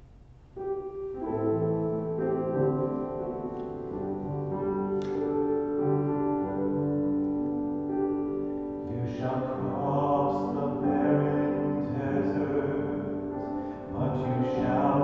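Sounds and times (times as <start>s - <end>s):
grand piano playing chords: 0.0s - 15.0s.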